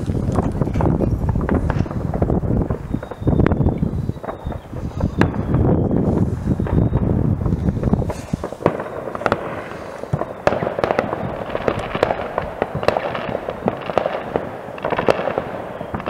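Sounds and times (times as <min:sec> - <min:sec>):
distant fireworks bangs and pops: 0:00.0 - 0:16.0.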